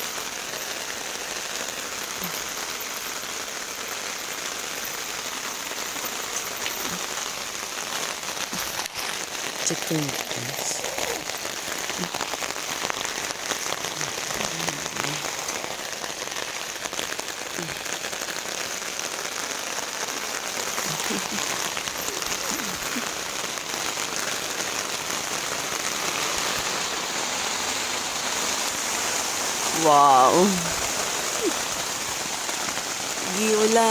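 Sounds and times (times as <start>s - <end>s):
rain falling on a tent: 0.0s - 33.9s.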